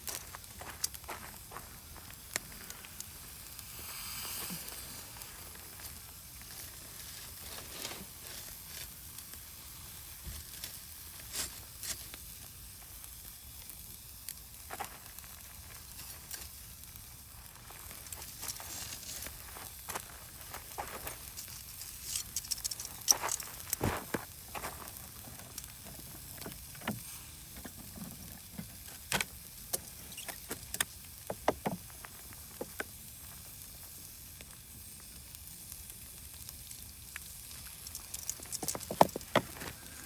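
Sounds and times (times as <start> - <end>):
campfire hissing and crackling: 0.0 - 40.0.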